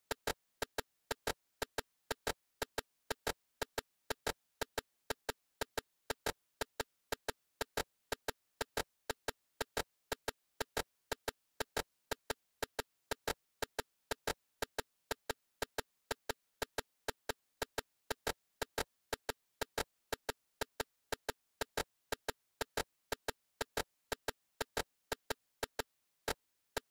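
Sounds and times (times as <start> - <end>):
sharp dry clicks: 0.1 - 26.9.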